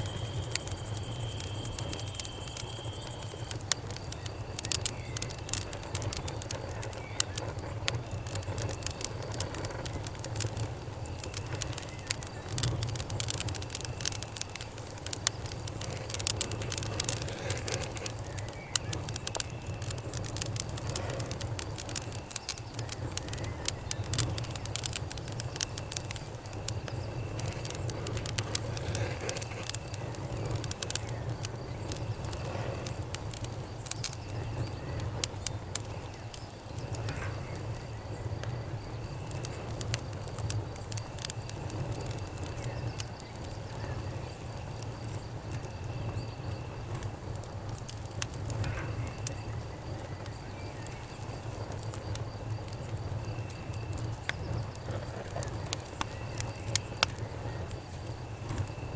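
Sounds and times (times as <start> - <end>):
campfire crackling and popping: 0.0 - 58.9
crickets chirping: 0.0 - 58.9.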